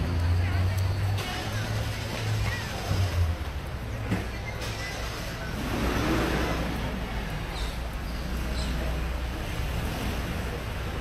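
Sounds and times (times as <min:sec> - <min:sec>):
street traffic: 0:00.0 - 0:11.0
vehicle engine low rumble: 0:00.0 - 0:11.0.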